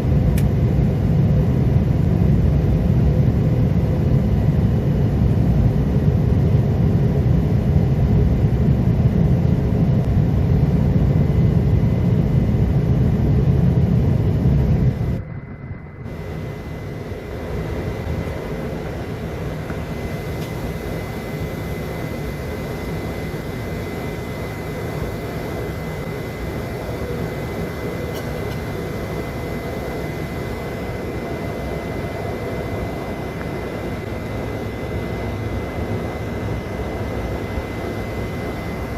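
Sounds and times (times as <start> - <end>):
airliner cabin low rumble: 0.0 - 38.9
jet engine noise: 0.0 - 38.9
steady high engine whine: 0.0 - 38.9.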